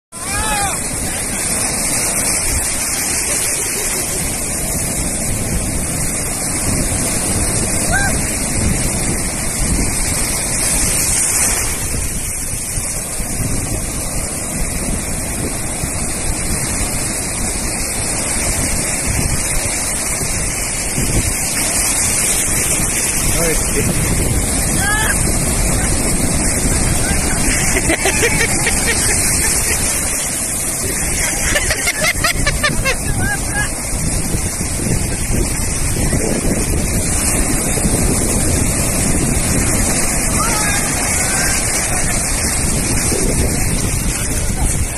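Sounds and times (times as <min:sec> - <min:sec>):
sea waves rushing: 0:00.1 - 0:44.9
surf breaking on beach: 0:00.1 - 0:44.9
wind buffeting microphone: 0:00.1 - 0:44.9.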